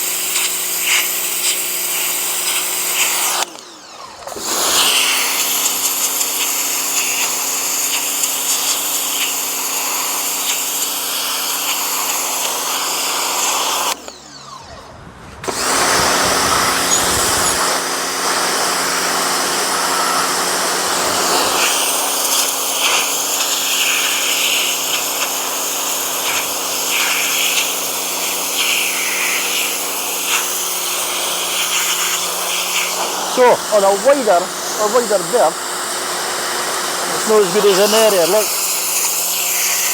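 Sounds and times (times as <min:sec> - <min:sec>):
water jet hissing on brickwork: 0:00.0 - 0:03.5, 0:04.4 - 0:14.0, 0:20.2 - 0:39.9
pressure washer motor humming: 0:00.0 - 0:39.9.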